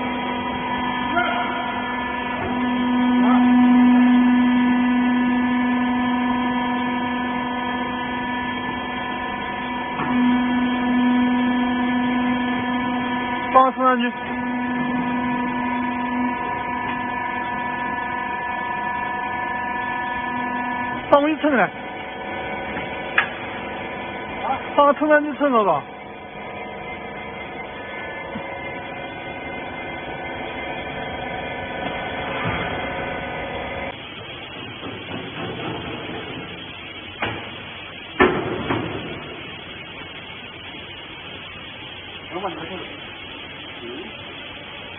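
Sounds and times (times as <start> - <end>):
electric motor and pump humming: 0.0 - 44.9.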